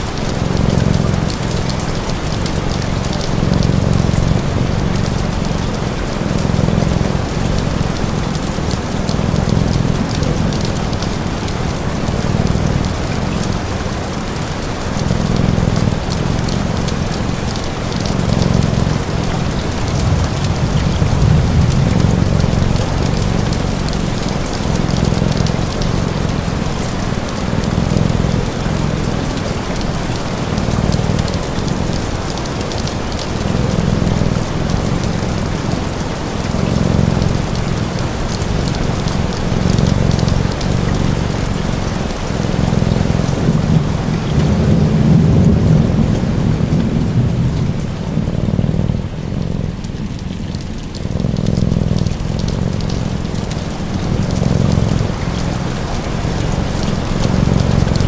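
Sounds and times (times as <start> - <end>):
wood fire crackling: 0.0 - 45.1, 46.5 - 55.1
cat purring: 0.0 - 58.0
rain pattering: 0.0 - 58.0.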